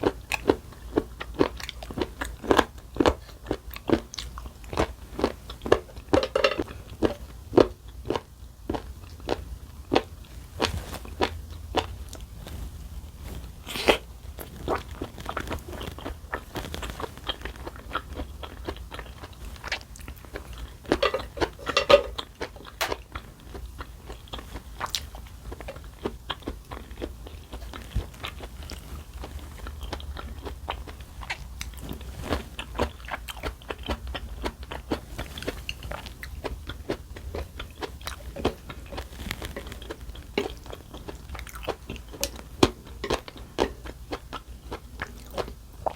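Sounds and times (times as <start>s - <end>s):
chewing and crunching food: 0.0s - 45.9s
low steady hum: 0.0s - 45.9s.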